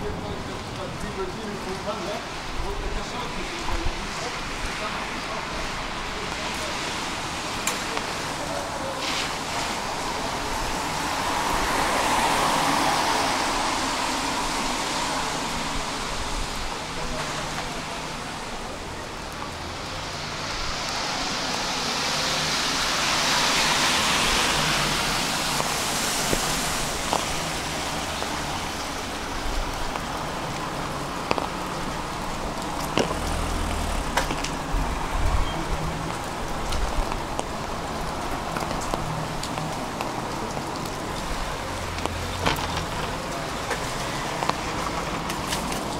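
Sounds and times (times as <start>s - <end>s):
car tyres hissing on wet road: 0.0s - 45.9s
steady rain: 0.0s - 45.9s.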